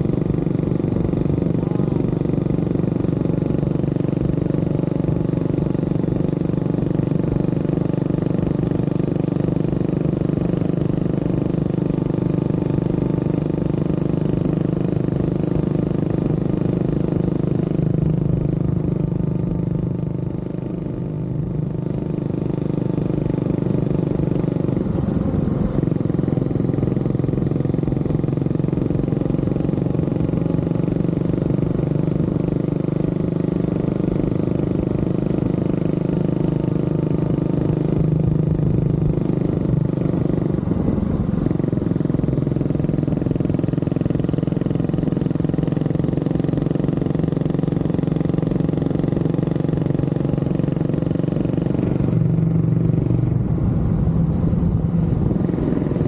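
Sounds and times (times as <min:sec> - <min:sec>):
motorcycle engine running: 0:00.0 - 0:56.0
wind and road rush: 0:00.0 - 0:56.0.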